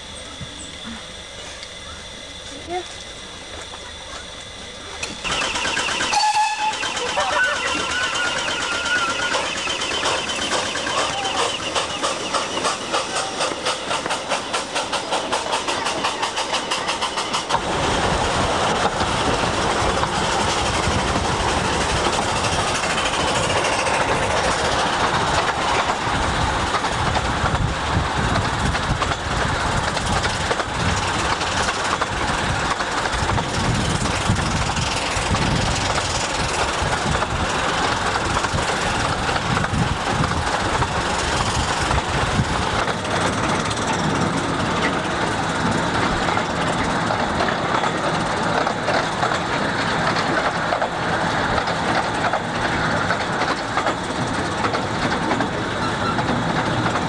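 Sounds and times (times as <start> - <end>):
steam locomotive exhaust beats: 0.0 - 57.0
train running rumble: 0.0 - 57.0.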